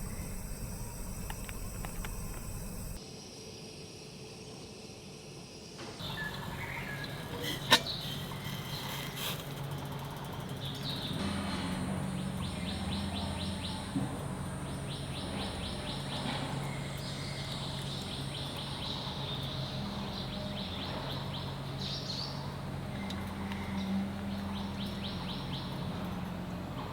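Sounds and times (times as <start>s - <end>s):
birds chirping: 0.0s - 3.0s, 6.0s - 26.8s
construction machinery humming: 0.0s - 3.0s, 6.0s - 26.9s.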